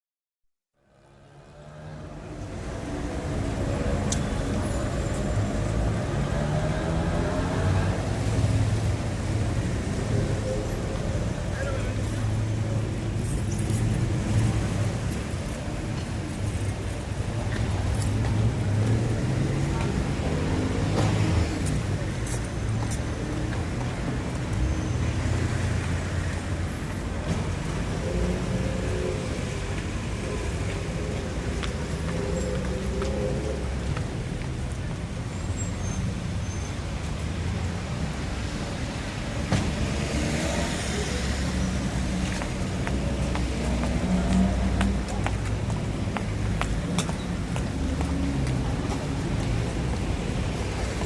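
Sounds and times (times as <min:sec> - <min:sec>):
road vehicles passing: 0:00.8 - 0:51.0.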